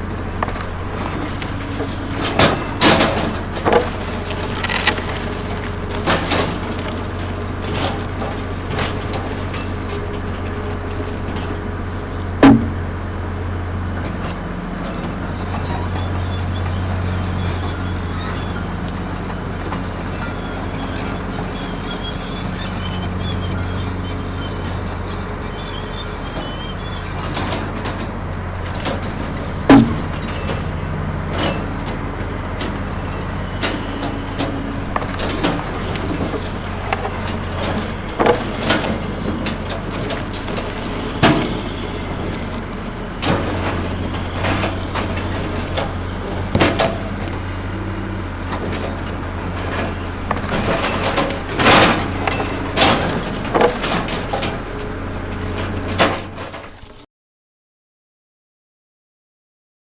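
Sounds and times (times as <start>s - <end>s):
heavy engine running: 0.0s - 57.0s.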